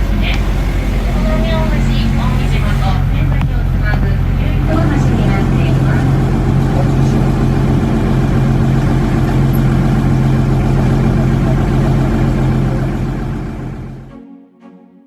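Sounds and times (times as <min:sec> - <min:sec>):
boat engine humming: 0:00.0 - 0:14.8.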